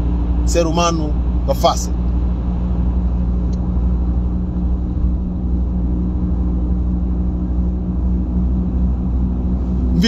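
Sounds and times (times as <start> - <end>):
car engine and road drone: 0.0 - 10.0
faint constant hum: 0.0 - 10.0.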